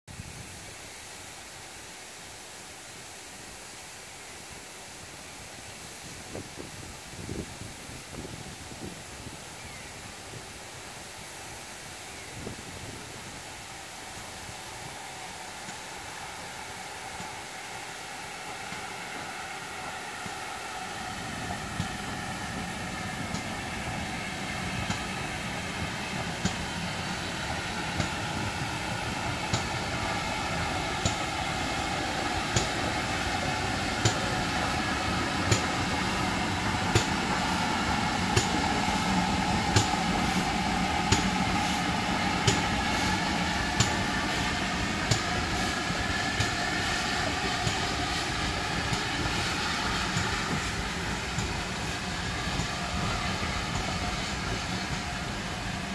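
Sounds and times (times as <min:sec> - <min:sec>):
steam train rumbling past: 0:00.1 - 0:55.9.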